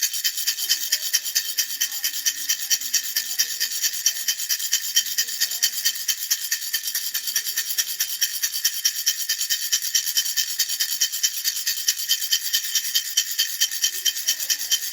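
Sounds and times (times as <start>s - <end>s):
baby rattle shaking: 0.0s - 14.9s.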